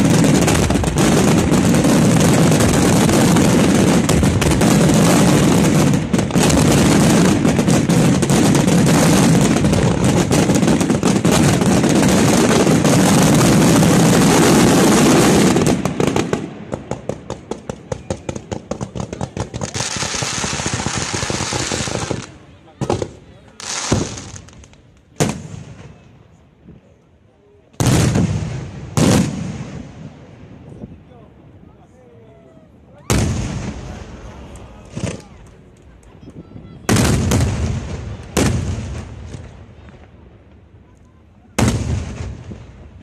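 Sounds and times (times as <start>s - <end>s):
fireworks bursting and crackling: 0.0s - 26.9s, 27.6s - 31.4s, 33.0s - 43.0s.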